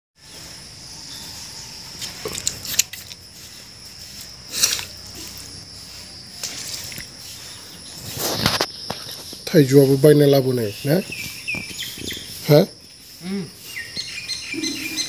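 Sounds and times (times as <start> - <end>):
insect chirring: 0.2 - 15.0.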